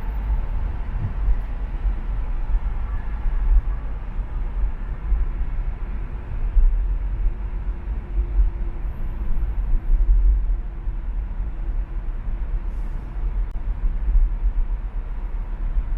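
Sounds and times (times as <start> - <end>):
traffic rumble of engines and tyres: 0.0 - 15.9.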